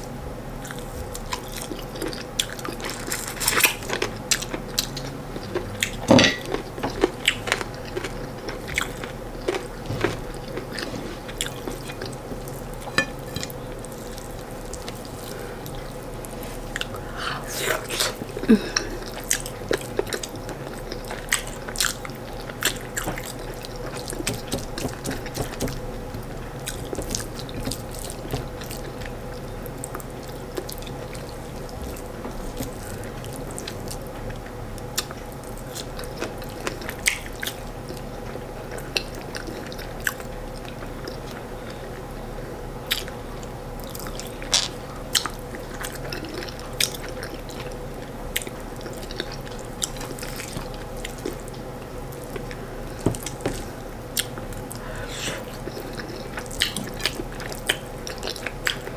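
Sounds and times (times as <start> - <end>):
low electrical hum: 0.0 - 58.9
person chewing with mouth clicks: 0.6 - 41.8, 42.8 - 58.9.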